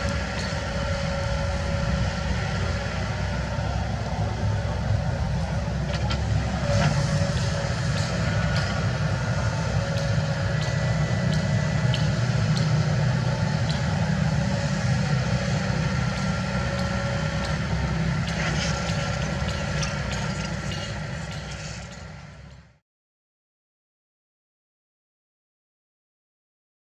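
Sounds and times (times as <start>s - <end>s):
excavator diesel engine: 0.0s - 22.8s.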